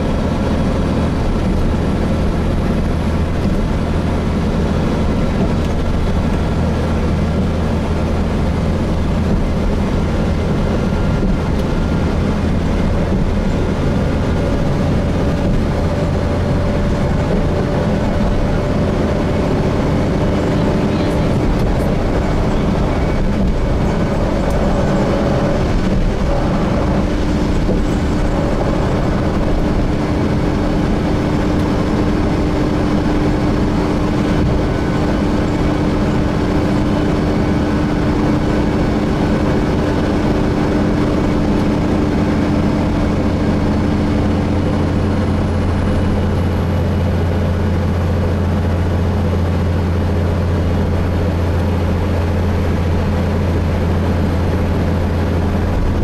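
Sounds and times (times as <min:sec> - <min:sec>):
bus engine drone: 0:00.0 - 0:56.0
road and tyre noise: 0:00.0 - 0:56.0.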